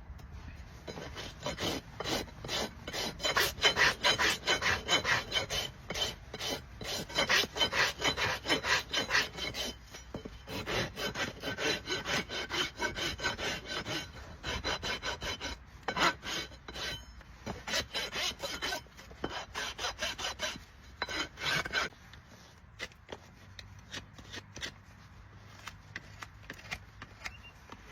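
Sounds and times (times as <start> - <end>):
rasp filing hoof: 0.6 - 27.9.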